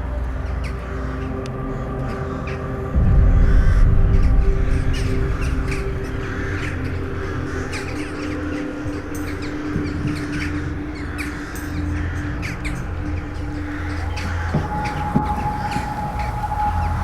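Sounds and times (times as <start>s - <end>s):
flock of birds calling: 0.0s - 17.0s
steady low hum: 0.0s - 17.0s.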